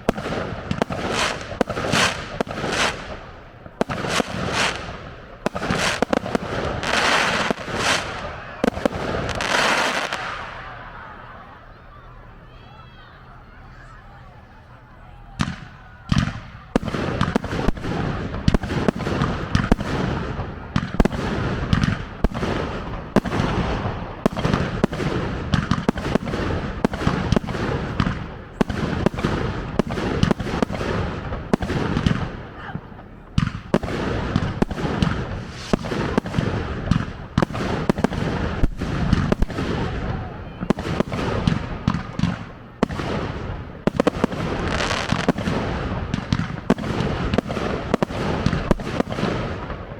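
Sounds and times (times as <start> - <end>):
fireworks bursting and crackling: 0.0 - 49.9.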